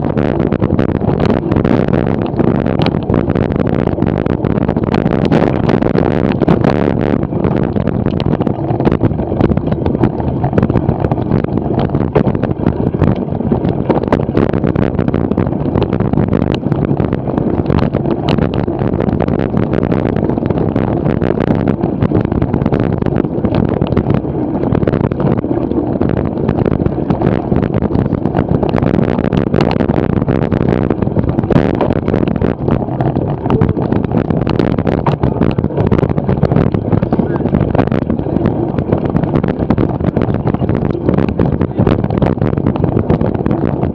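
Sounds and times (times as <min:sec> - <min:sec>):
bicycle tyre noise: 0:00.0 - 0:43.9
bike knocking and rattling: 0:00.0 - 0:43.9
wind rush on microphone: 0:00.0 - 0:43.9.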